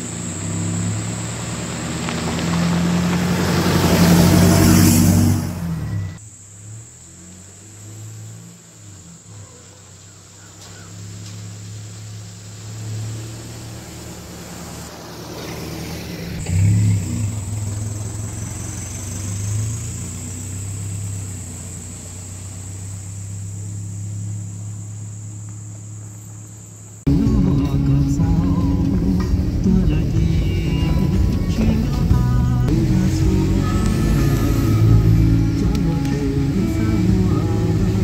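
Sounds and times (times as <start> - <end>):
pickup truck engine hum: 0.0 - 38.0
tyres on gravel: 0.0 - 38.0.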